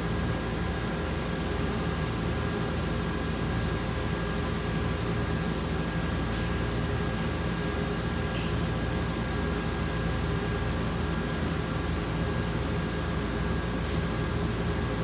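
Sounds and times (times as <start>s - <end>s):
mechanical hum with fan hiss: 0.0s - 15.0s.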